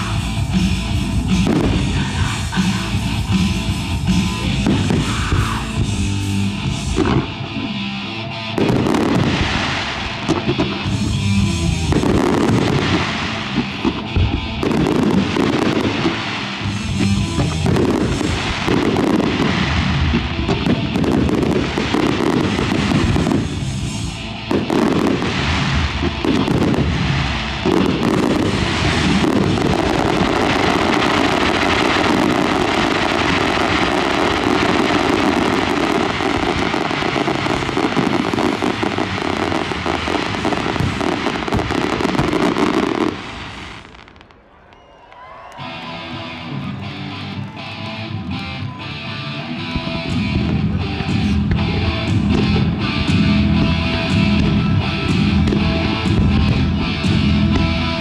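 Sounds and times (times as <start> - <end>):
fireworks bursting: 0.0 - 7.8, 8.5 - 45.0, 49.6 - 58.0
music soundtrack: 0.0 - 44.3, 45.6 - 58.0.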